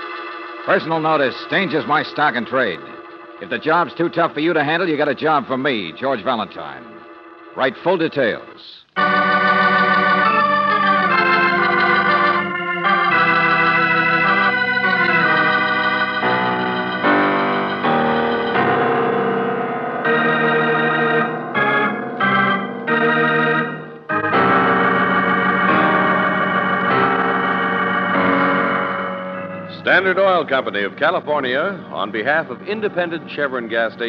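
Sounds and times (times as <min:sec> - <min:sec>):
organ playing chords: 0:00.0 - 0:34.0.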